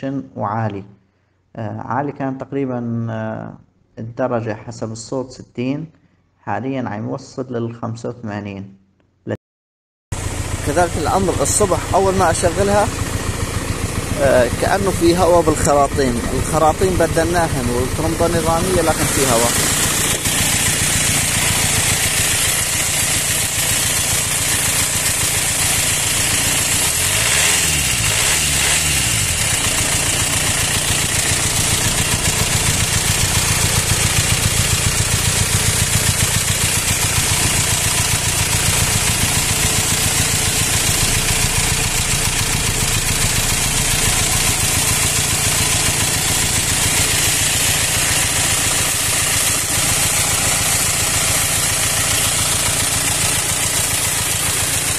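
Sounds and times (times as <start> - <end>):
car engine idling roughly: 10.1 - 54.9.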